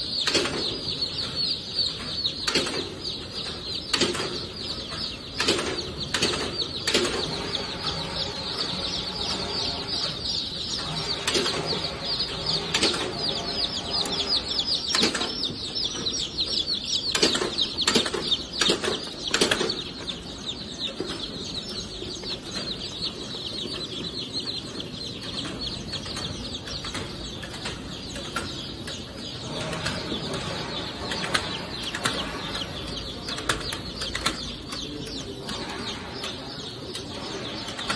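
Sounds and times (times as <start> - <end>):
chicks peeping: 0.0 - 37.9
sorting machine clicks and knocks: 0.0 - 37.9.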